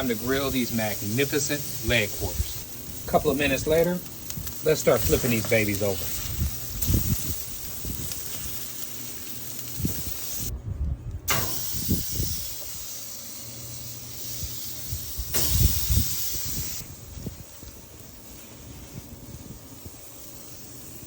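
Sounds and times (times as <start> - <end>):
meat sizzling on a grill: 0.0 - 10.5, 11.3 - 21.0.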